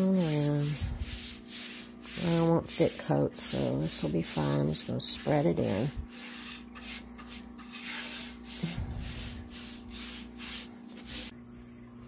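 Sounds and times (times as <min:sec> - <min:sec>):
paint brush scratchy strokes: 0:00.0 - 0:11.3.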